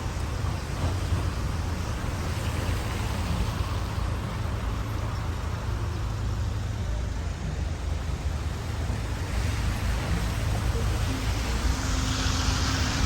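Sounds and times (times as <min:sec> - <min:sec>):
road noise rumble and hiss: 0:00.0 - 0:13.0.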